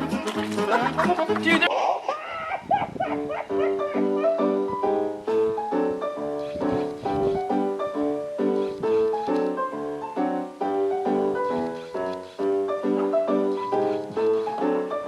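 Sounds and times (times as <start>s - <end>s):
piano music: 0.0s - 1.7s, 3.0s - 15.0s.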